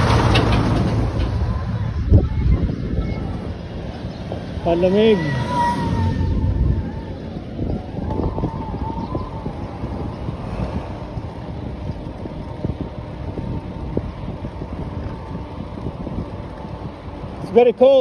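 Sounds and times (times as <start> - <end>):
car road noise: 0.0 - 18.0
wind buffeting microphone: 0.0 - 18.0.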